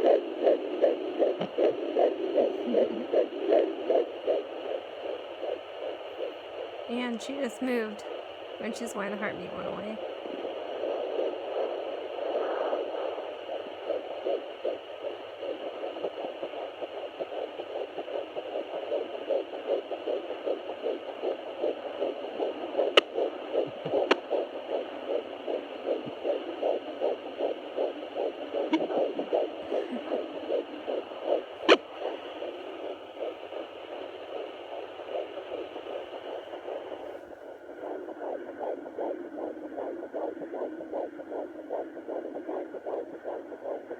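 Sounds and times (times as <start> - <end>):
fetal heartbeat whooshing pulses: 0.0 - 43.9
static hiss: 0.0 - 43.9.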